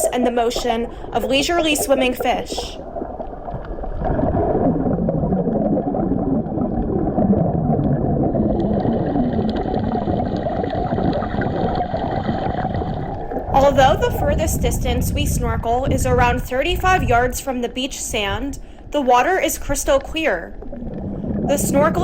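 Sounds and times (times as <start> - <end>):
underwater rumble of moving water: 0.0 - 22.0
water gurgling: 0.0 - 22.0.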